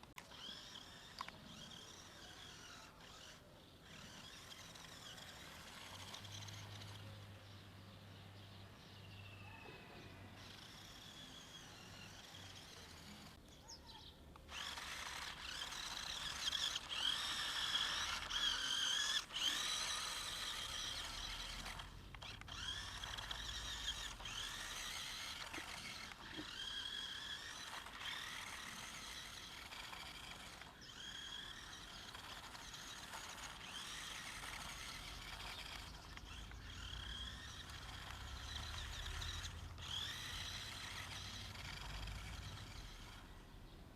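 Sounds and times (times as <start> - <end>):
toy car electric motor whining: 0.0 - 7.6, 9.4 - 43.7.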